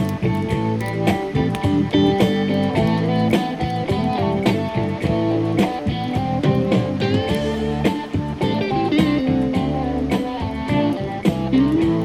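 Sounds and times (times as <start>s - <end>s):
blues guitar instrumental: 0.0s - 12.0s.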